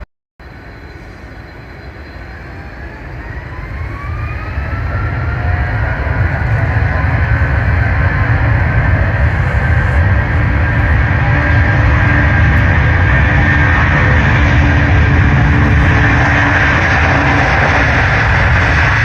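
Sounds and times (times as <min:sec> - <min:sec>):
jet engines powering up: 0:00.5 - 0:19.0.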